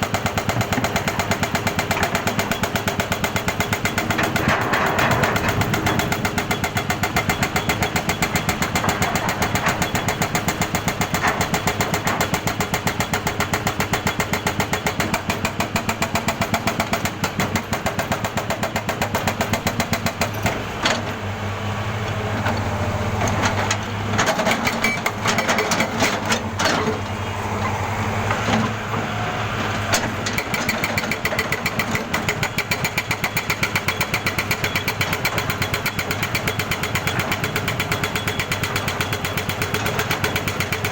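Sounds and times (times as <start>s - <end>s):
jackhammer pounding: 0.0s - 21.2s, 28.3s - 40.9s.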